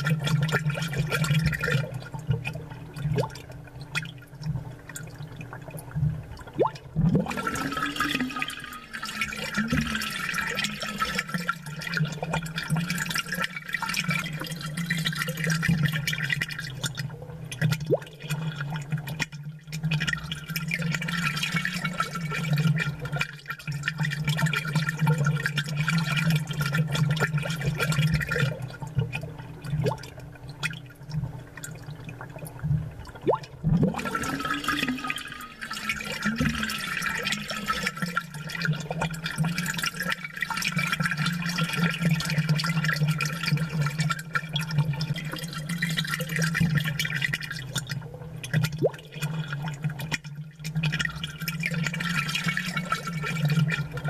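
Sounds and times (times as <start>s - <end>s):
aquarium bubbling: 0.0s - 54.0s.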